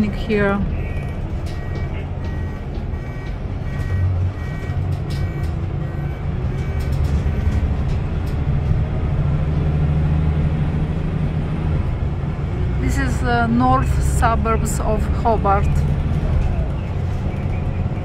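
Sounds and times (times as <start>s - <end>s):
vehicle engine and road hum: 0.0s - 18.0s.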